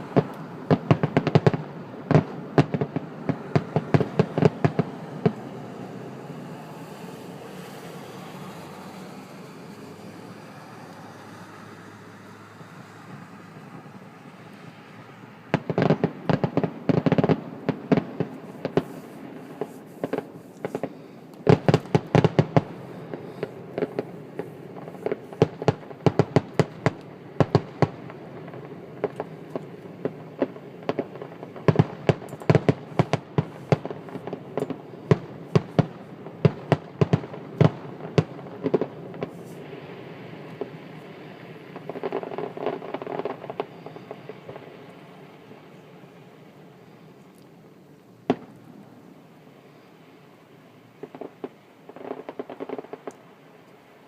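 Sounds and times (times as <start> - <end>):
fireworks cracking and popping: 0.0 - 5.8, 6.5 - 49.9, 50.5 - 54.0.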